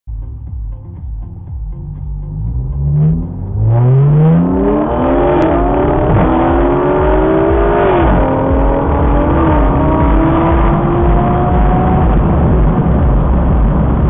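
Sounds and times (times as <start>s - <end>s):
car engine accelerating hard: 2.2s - 14.0s.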